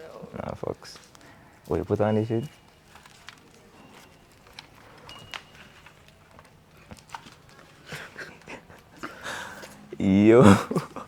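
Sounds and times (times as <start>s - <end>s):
faint clicks and rustling: 0.0s - 9.9s.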